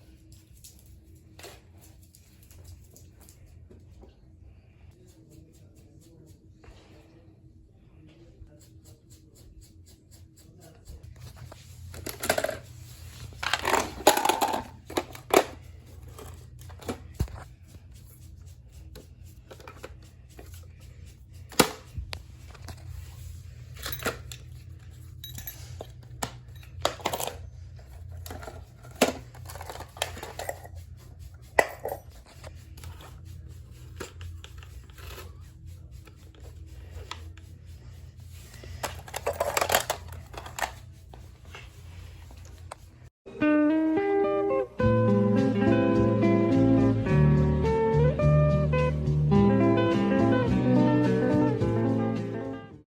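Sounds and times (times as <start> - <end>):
steady low hum: 0.0 - 43.1.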